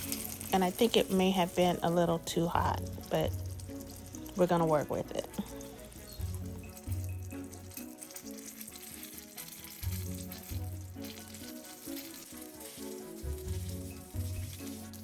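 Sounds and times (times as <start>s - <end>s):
dough sizzling in hot oil: 0.0s - 15.0s
background music with bass line: 1.8s - 15.0s.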